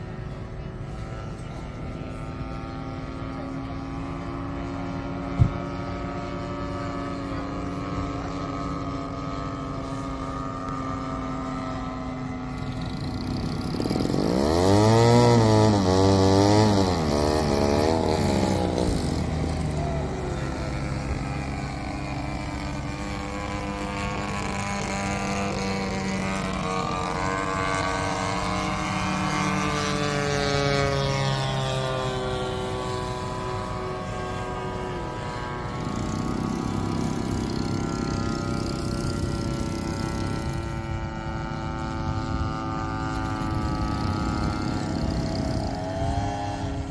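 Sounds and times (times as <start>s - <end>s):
model airplane engines droning: 0.0s - 46.9s.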